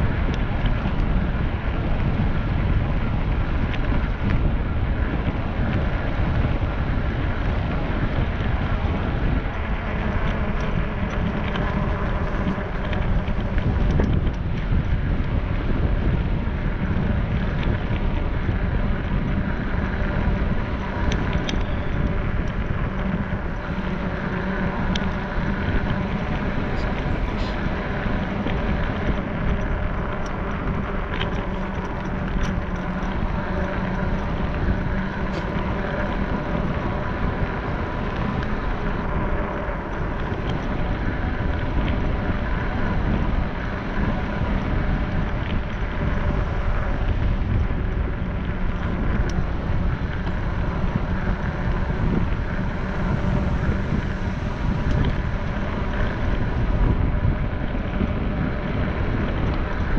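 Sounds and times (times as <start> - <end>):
faint steady hum: 0.0 - 59.9
vehicle rumble: 0.0 - 59.9
wind buffeting microphone: 0.0 - 59.9.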